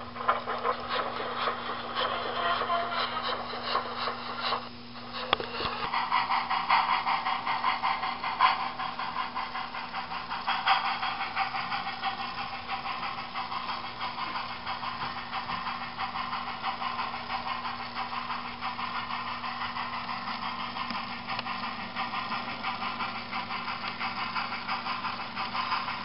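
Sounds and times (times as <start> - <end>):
model steam locomotive running: 0.0 - 26.0.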